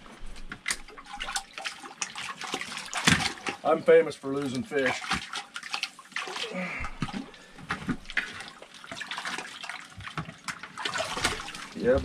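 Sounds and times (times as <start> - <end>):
water splashing: 0.6 - 12.0.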